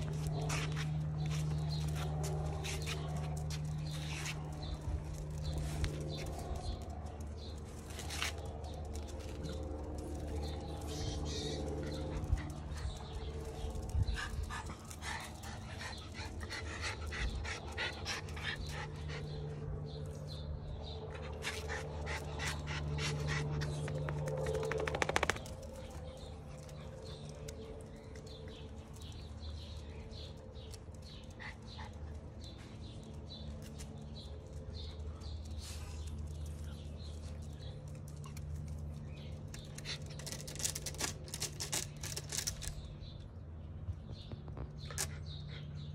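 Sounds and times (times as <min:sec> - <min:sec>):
dogs panting: 0:00.0 - 0:42.5, 0:44.8 - 0:45.9.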